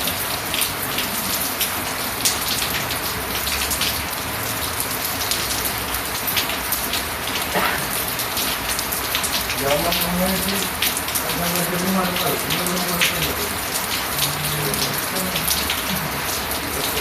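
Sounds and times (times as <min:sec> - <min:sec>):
raindrops striking hard surfaces: 0:00.0 - 0:17.0
steady rain falling: 0:00.0 - 0:17.0.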